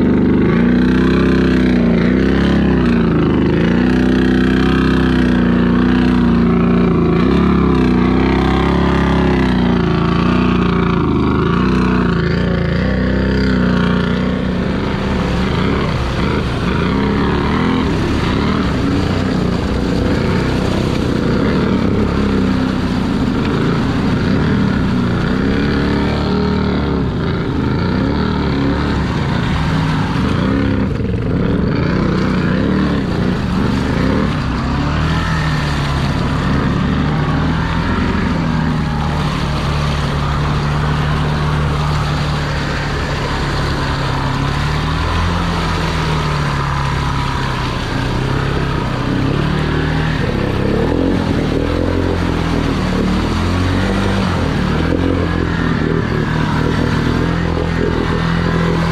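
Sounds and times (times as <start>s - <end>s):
engine revving under load: 0.0s - 58.9s
mud and water churning: 0.0s - 58.9s.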